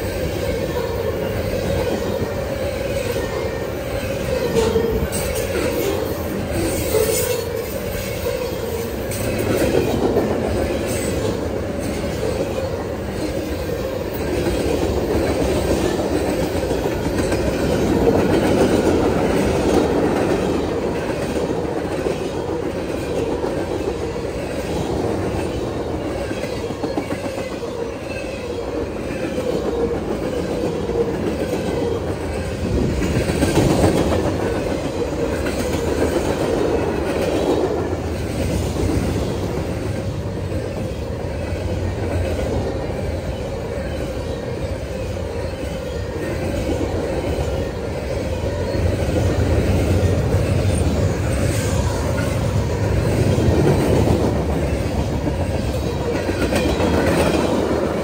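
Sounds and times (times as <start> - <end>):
freight train cars rolling: 0.0 - 58.0.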